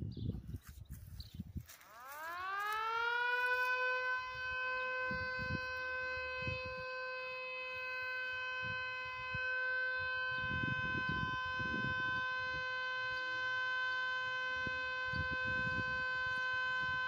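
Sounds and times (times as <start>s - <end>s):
warning siren high steady tone: 0.0s - 17.0s.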